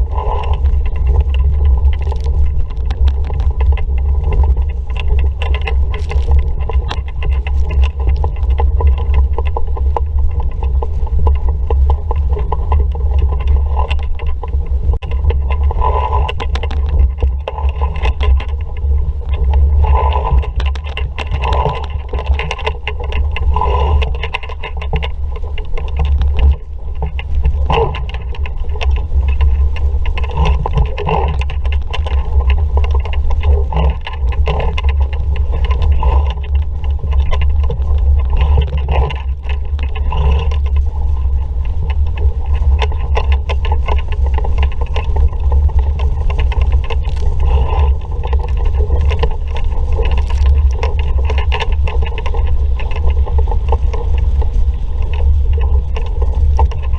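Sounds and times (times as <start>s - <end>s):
water splashing along hull: 0.0s - 56.9s.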